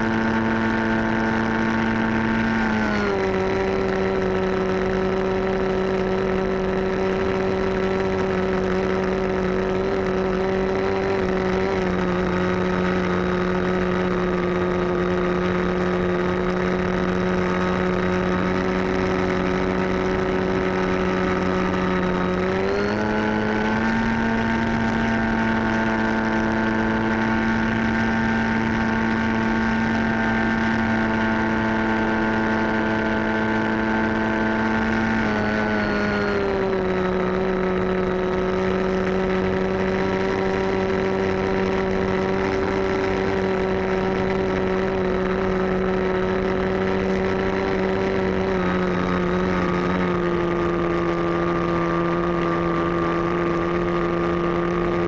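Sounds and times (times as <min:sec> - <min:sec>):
model airplane motor and propeller: 0:00.0 - 0:55.0.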